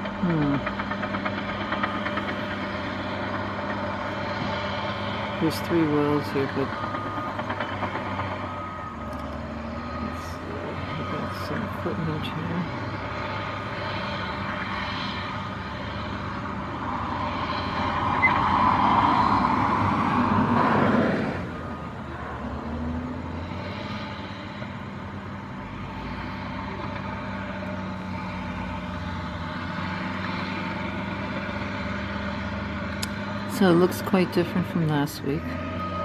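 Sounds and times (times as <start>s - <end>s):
heavy truck diesel engines rumbling: 0.0s - 36.0s.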